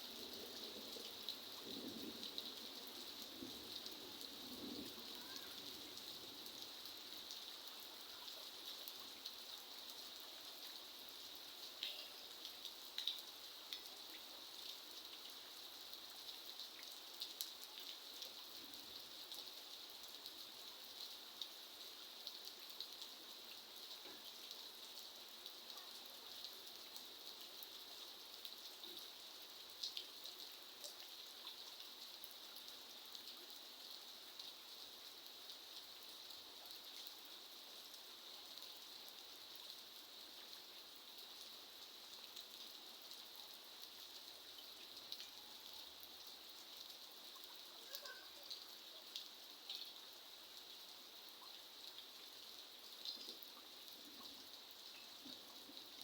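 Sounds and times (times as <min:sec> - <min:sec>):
quiet rainfall: 0:00.0 - 0:56.0
raindrops ticking on a surface: 0:00.0 - 0:56.0.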